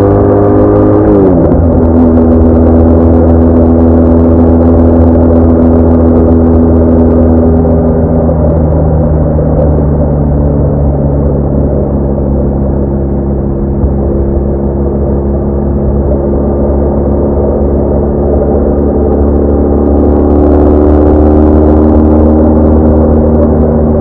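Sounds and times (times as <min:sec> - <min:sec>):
motorcycle engine running: 0:00.0 - 0:24.0
wind rush: 0:00.1 - 0:24.0.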